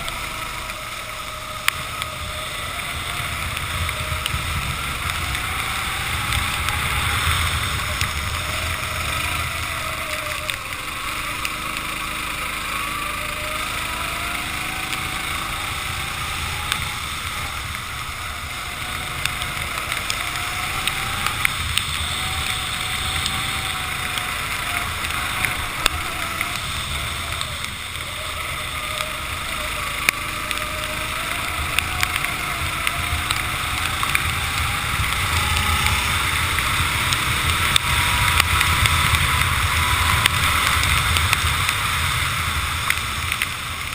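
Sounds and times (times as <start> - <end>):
racing kart engine running: 0.0 - 43.9
sharp ticks: 0.0 - 43.9
tyres hissing on wet track: 0.0 - 43.9.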